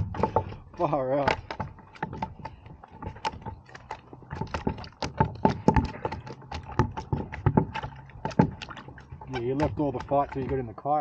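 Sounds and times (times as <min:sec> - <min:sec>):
fish thrashing in a net: 0:00.0 - 0:11.0.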